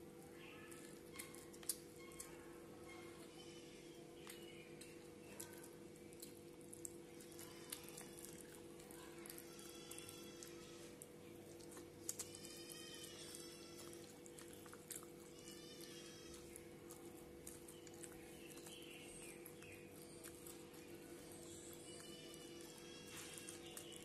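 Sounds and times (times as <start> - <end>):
faint high-pitched animal calls: 0.3 - 4.6, 7.0 - 24.0
eating smacks and clicks: 0.7 - 2.4, 4.2 - 24.0.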